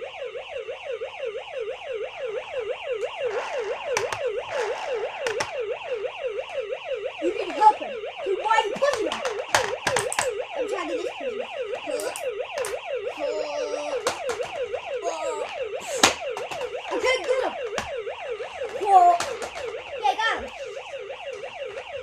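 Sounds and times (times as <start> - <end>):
toy truck electronic siren yelping: 0.0 - 22.0.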